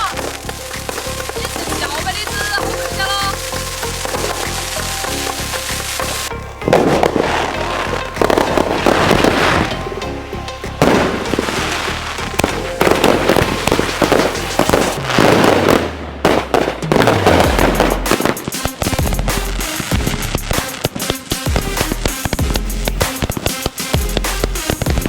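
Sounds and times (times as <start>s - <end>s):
background music with bass: 0.0s - 25.0s
fireworks bursts and crackling: 0.0s - 25.0s.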